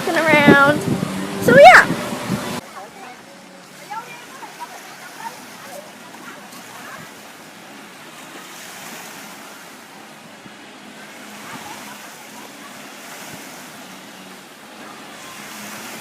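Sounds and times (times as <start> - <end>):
ocean surf washing: 0.0 - 16.0
wind: 0.0 - 16.0.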